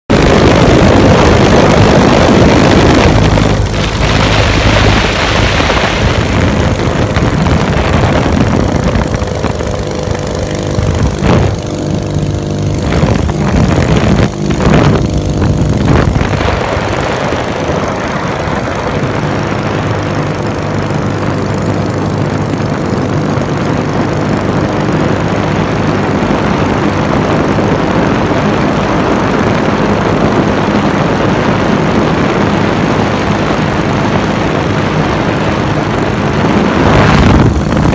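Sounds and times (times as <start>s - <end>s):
small two-stroke engine running: 0.1s - 37.9s
wind rushing over microphone: 0.1s - 37.9s.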